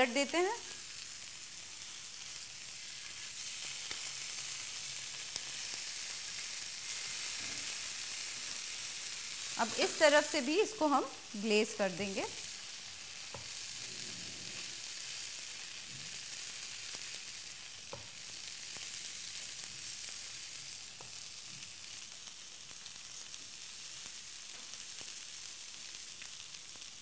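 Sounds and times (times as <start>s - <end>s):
chicken sizzling on a grill pan: 0.0s - 27.0s.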